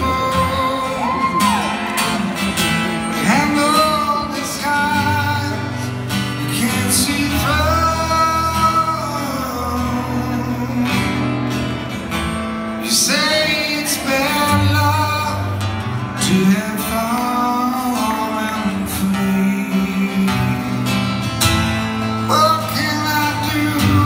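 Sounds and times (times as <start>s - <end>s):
guitar accompaniment: 0.0s - 24.0s
man singing rock ballad: 0.0s - 24.0s.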